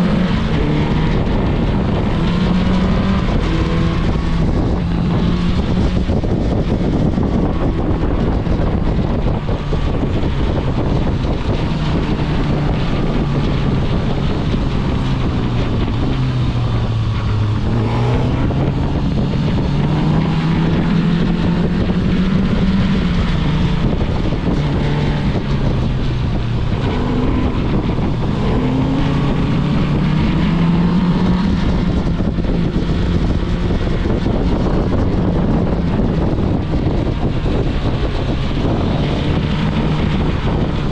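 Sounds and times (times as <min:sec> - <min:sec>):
motorcycle engine revving: 0:00.0 - 0:40.9
wind buffeting microphone: 0:00.0 - 0:40.9.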